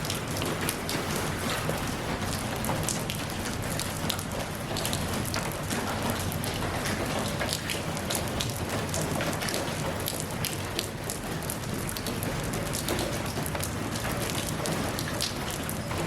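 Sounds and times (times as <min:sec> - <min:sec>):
raindrops tapping close by: 0:00.0 - 0:16.0.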